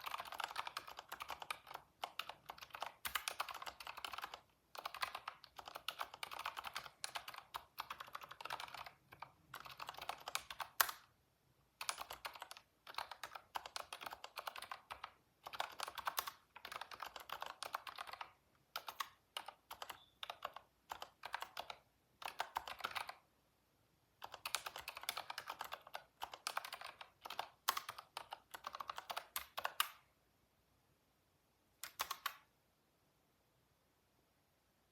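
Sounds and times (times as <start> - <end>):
computer keyboard typing: 0.0 - 11.2, 11.8 - 23.3, 24.2 - 30.0, 31.8 - 32.5.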